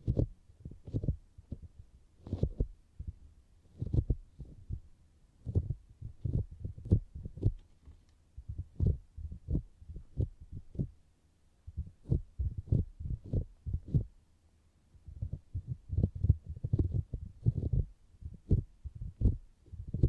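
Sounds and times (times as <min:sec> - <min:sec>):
fingertips tapping on microphone: 0:00.0 - 0:11.0, 0:11.7 - 0:14.1, 0:15.1 - 0:20.0.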